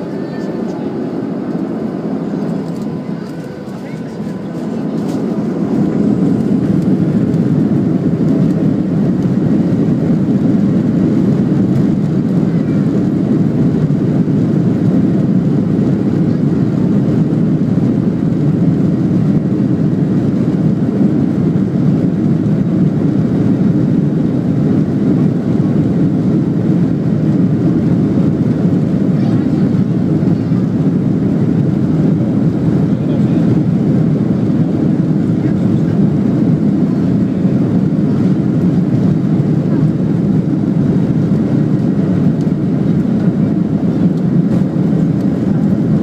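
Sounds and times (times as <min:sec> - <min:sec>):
jet engines at take-off: 0:00.0 - 0:46.0.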